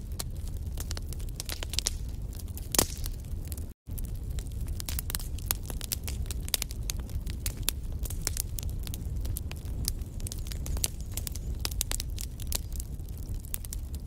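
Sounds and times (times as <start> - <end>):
low rumble of flame: 0.0 - 14.0
wood fire crackling: 0.0 - 14.0.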